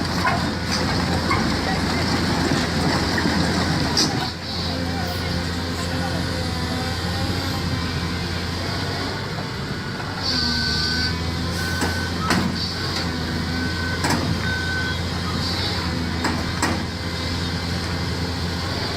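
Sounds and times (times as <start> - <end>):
heavy vehicle engine humming: 0.0 - 18.9.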